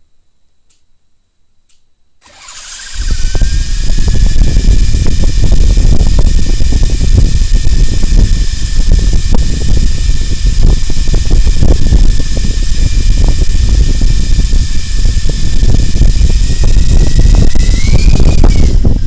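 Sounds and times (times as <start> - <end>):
electric motor whine: 2.2 - 19.0
rotors rushing: 2.2 - 19.0.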